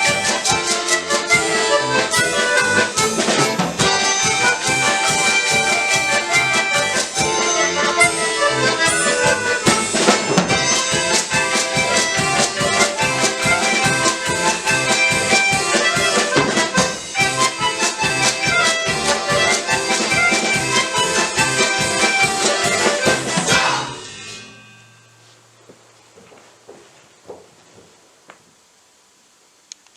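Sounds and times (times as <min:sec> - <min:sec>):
button accordion orchestra playing: 0:00.0 - 0:24.0.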